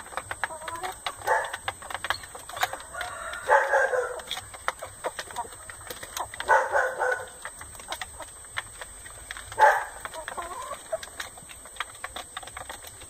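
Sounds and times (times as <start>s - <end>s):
chicks pecking taps: 0.0s - 13.0s
chicks soft clucking: 0.0s - 13.0s.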